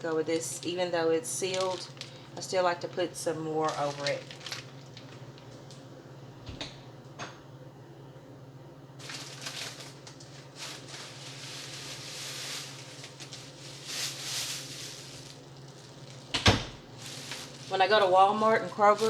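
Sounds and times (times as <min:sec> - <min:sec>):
plastic bag rustling and crinkling: 0:00.0 - 0:05.7, 0:09.0 - 0:19.0.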